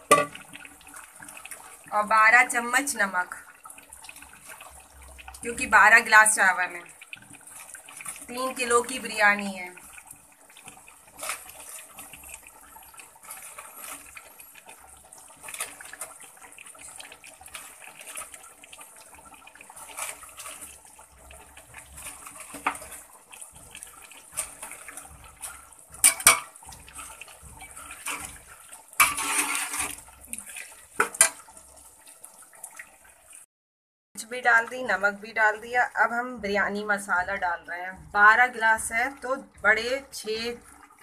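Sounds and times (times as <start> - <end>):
food sizzling in hot oil: 0.0 - 33.5.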